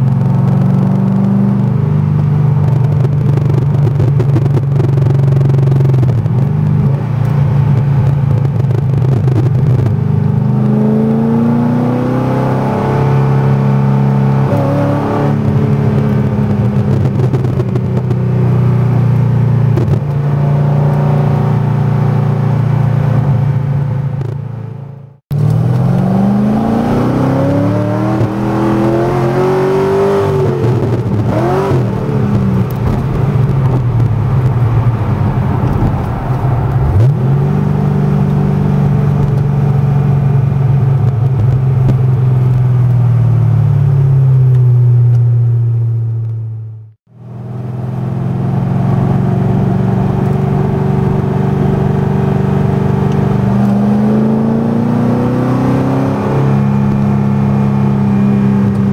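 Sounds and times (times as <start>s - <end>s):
sports car engine accelerating: 0.0s - 58.9s.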